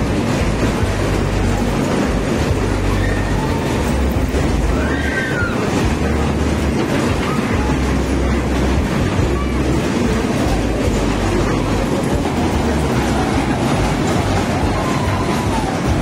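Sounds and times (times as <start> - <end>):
fairground rides rumbling and clattering: 0.0 - 16.0.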